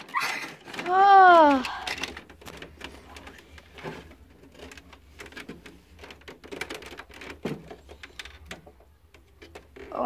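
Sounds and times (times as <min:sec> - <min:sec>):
plastic toys clicking: 0:00.0 - 0:10.0.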